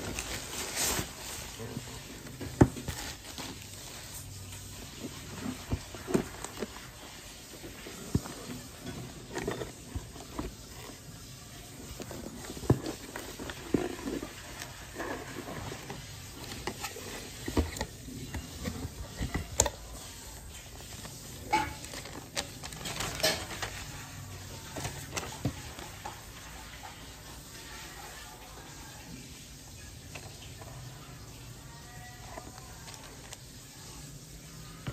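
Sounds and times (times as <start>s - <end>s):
cardboard and paper rustling: 0.0s - 28.4s, 30.0s - 34.9s.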